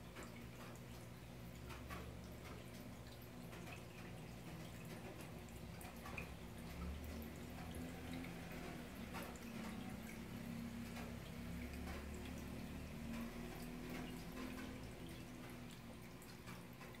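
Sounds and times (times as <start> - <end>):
low pump hum: 0.0 - 17.0
water trickling and dripping: 0.0 - 17.0.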